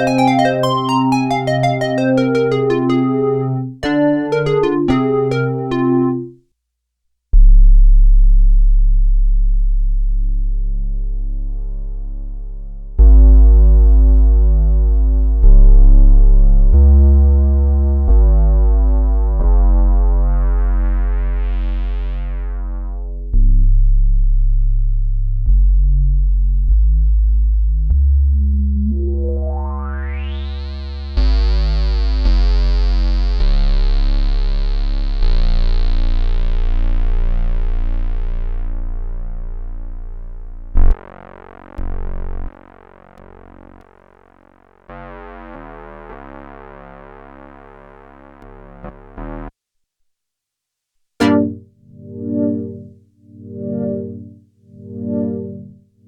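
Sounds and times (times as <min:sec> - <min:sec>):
deep synthesizer bass notes: 0:00.0 - 0:06.4, 0:07.4 - 0:49.5, 0:51.2 - 0:56.0.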